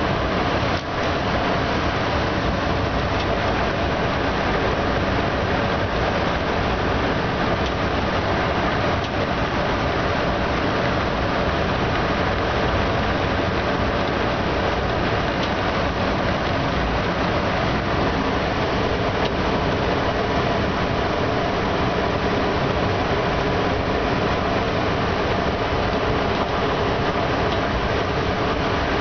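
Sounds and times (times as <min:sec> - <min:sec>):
locomotive drone: 0:00.0 - 0:29.0.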